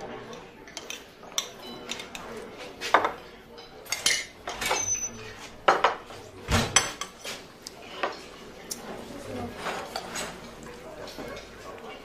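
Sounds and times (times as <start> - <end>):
dishes and cutlery clattering: 0.0 - 8.4, 9.4 - 12.0.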